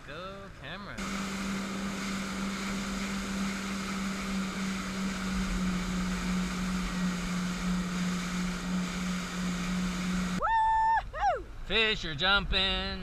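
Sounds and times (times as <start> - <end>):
boat engine humming: 0.0 - 11.6
water noise: 0.0 - 11.6.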